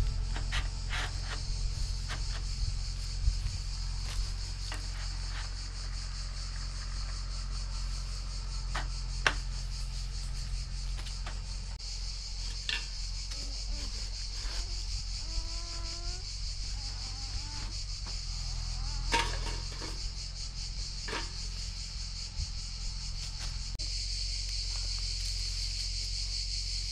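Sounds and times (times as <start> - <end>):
insects chirring: 0.0 - 26.9.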